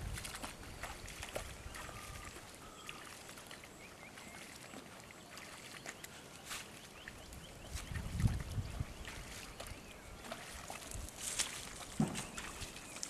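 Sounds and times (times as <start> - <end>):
sloshing and splashing water: 0.0 - 13.0.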